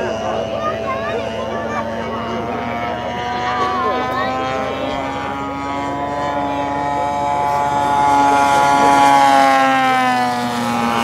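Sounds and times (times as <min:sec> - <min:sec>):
model plane engine drone: 0:00.0 - 0:11.0.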